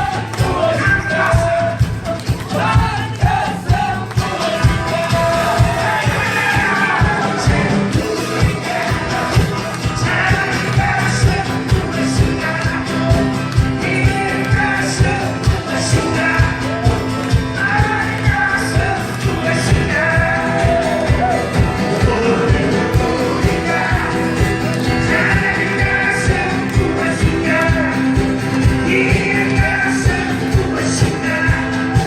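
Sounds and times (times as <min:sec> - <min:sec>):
live rock band playing: 0:00.0 - 0:32.0
steady drum beat: 0:00.0 - 0:32.0.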